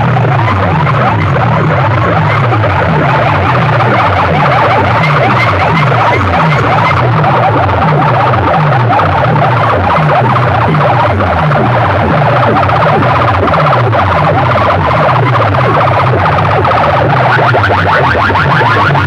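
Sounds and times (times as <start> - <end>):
electronic siren sweeps: 0.0 - 19.0
pulsing bass: 0.0 - 19.0.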